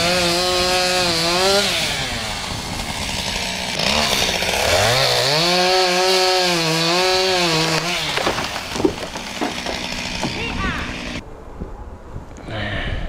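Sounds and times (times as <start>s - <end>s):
chainsaw engine revving: 0.0s - 11.2s.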